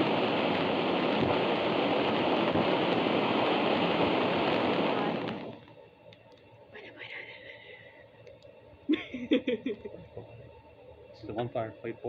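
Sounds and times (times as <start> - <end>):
firework fountain hissing: 0.0 - 10.3.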